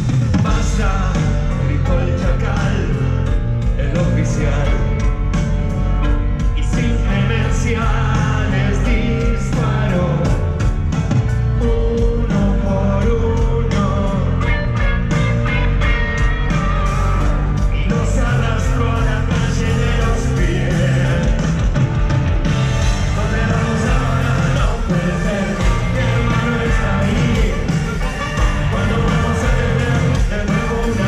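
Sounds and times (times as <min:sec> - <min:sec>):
rock band playing: 0:00.0 - 0:31.0
person singing: 0:00.4 - 0:05.1, 0:06.5 - 0:10.6, 0:11.6 - 0:21.6, 0:23.0 - 0:31.0.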